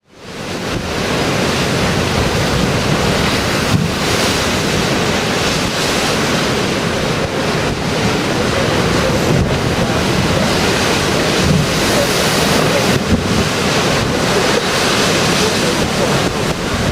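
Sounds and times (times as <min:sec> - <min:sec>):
waves breaking on shore: 0:00.0 - 0:16.9
wind buffeting microphone: 0:00.2 - 0:16.9.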